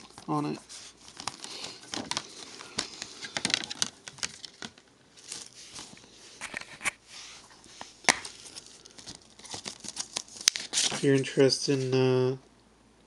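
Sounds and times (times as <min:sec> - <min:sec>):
cardboard and plastic case rustling: 0:00.0 - 0:12.0.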